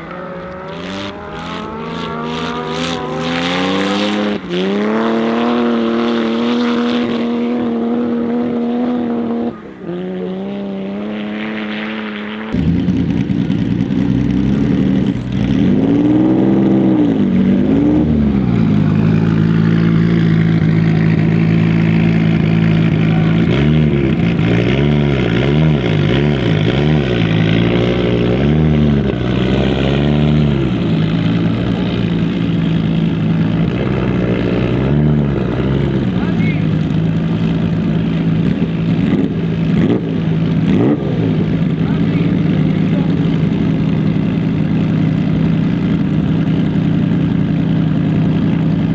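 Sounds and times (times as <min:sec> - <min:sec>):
car engine idling: 0:00.0 - 0:10.5, 0:12.6 - 0:48.9
engine throttle blips: 0:00.0 - 0:48.9.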